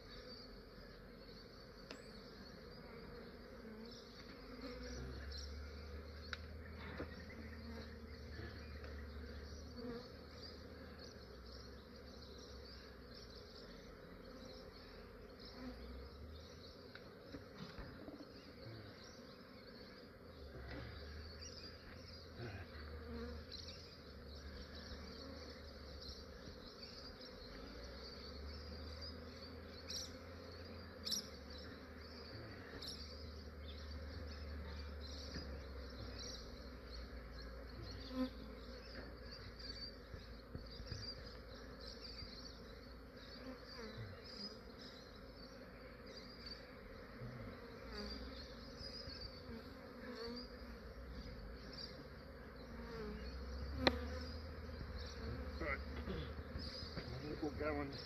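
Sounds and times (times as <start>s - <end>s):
bee swarm humming: 0.0s - 58.0s.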